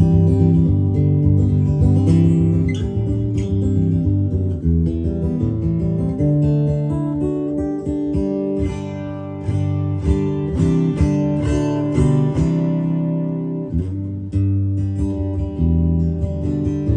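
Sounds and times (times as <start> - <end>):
acoustic-electric guitar chords ringing: 0.0 - 16.9.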